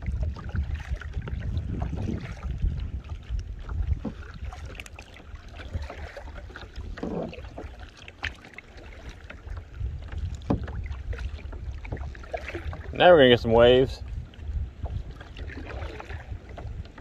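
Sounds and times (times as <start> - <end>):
wind on microphone: 0.0 - 7.8, 9.2 - 17.0
paddle strokes splashing water: 0.0 - 17.0.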